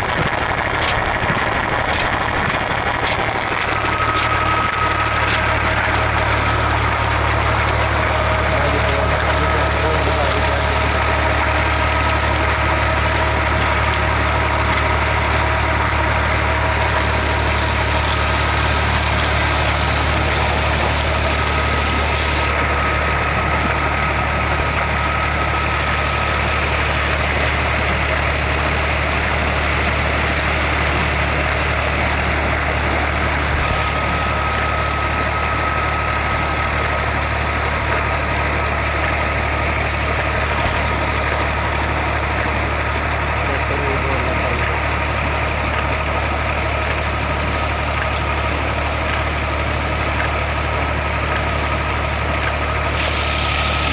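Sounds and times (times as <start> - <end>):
tractor diesel engine running: 0.0 - 53.9
water gushing into tank: 0.0 - 53.9.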